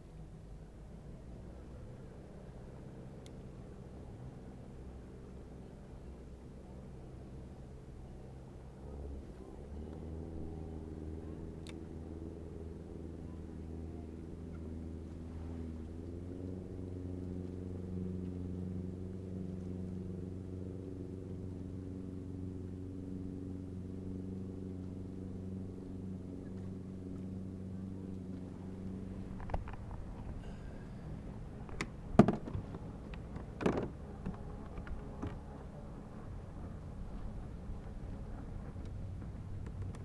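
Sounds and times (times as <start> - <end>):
engine humming: 0.0 - 40.0.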